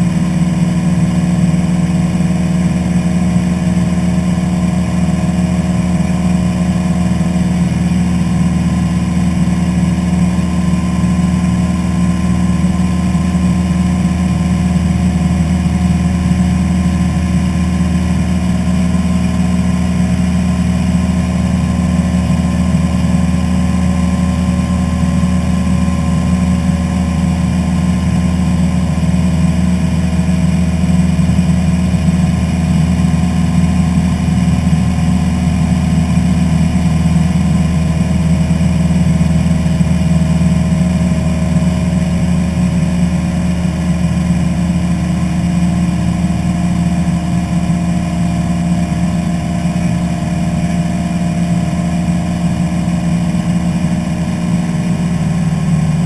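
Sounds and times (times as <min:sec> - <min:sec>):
airplane engine droning: 0:00.0 - 0:56.0.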